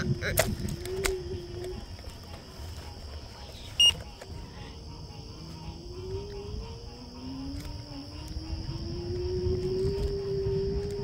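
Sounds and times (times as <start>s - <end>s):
chorus of frogs: 0.0s - 11.0s
electric scooter motor whine: 0.0s - 11.0s
low wind rumble: 0.0s - 11.0s.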